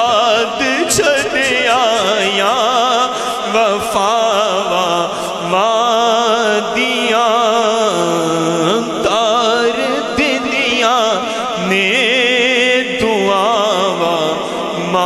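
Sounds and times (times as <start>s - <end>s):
man singing with wide vibrato: 0.0s - 15.0s.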